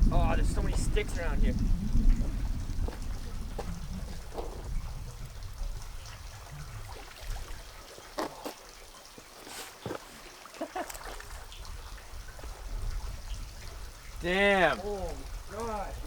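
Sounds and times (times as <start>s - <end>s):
water running and trickling: 0.0s - 16.0s
water splashing: 0.0s - 16.0s.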